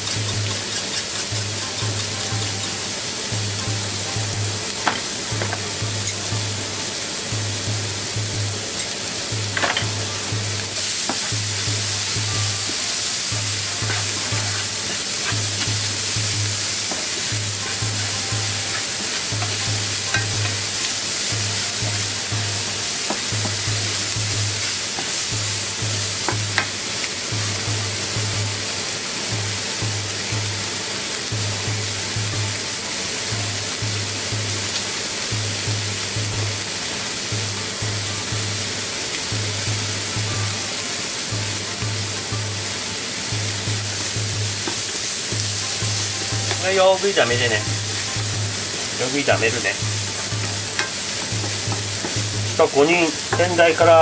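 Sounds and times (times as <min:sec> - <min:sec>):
low pulsing beat: 0:00.0 - 0:30.7, 0:31.3 - 0:32.7, 0:33.3 - 0:36.7, 0:37.3 - 0:40.7, 0:41.3 - 0:46.6, 0:47.3 - 0:52.6
onions sizzling in a frying pan: 0:00.0 - 0:54.0.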